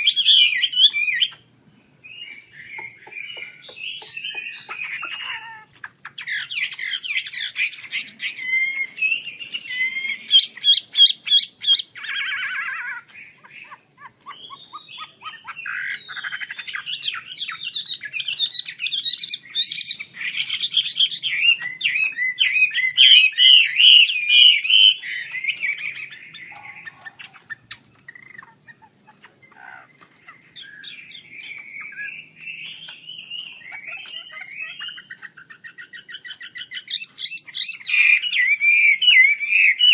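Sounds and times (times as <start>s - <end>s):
bird singing whistled trills: 0.0s - 1.4s, 2.0s - 5.5s, 6.2s - 27.2s, 29.4s - 39.9s.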